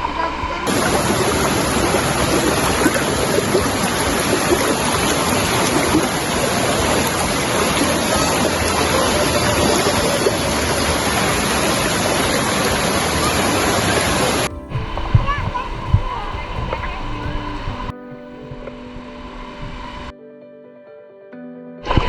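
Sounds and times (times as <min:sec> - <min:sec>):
river rushing over rocks: 0:00.0 - 0:17.9.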